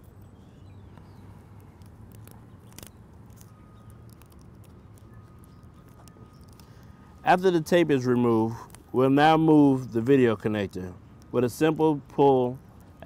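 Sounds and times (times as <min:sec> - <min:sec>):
low steady hum: 0:00.0 - 0:13.0
tape peeling clicks and crackles: 0:00.0 - 0:13.0.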